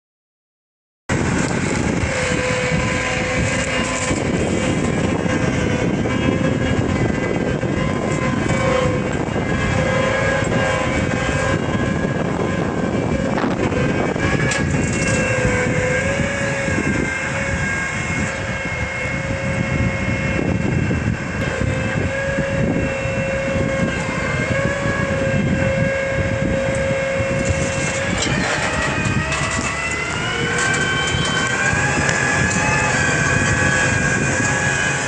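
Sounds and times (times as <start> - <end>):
steady whine: 1.1 - 35.0
tractor diesel engine rumbling: 1.1 - 35.0.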